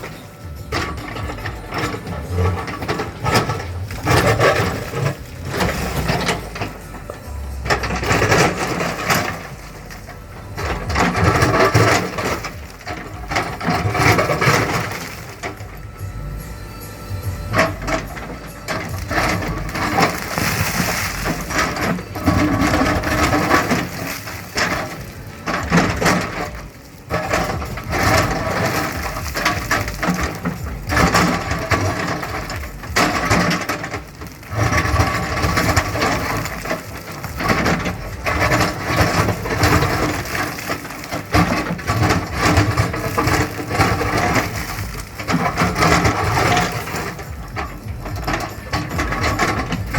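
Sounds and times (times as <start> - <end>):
bucket scraping and knocking soil: 0.0 - 49.9
diesel engine under load: 0.0 - 49.9.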